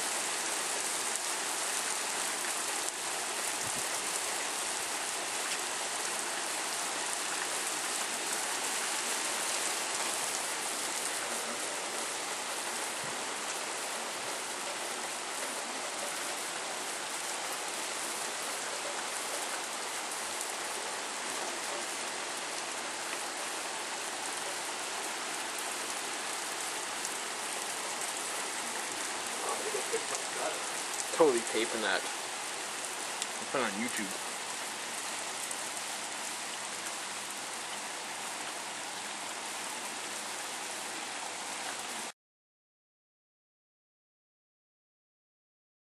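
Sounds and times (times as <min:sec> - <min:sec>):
heavy rain pouring: 0:00.0 - 0:42.1.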